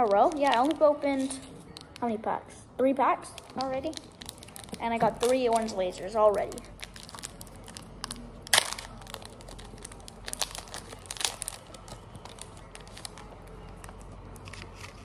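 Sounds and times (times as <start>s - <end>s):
wrapper tearing and crinkling: 0.0s - 2.0s, 3.4s - 5.8s, 6.4s - 15.0s.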